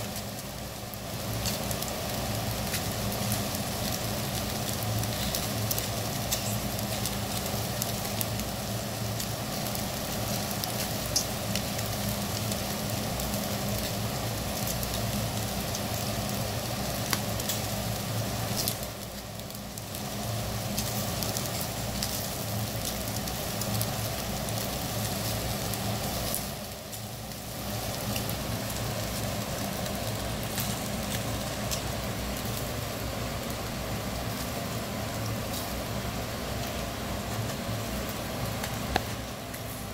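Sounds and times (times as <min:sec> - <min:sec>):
fish sizzling on a grill: 0:00.0 - 0:39.9.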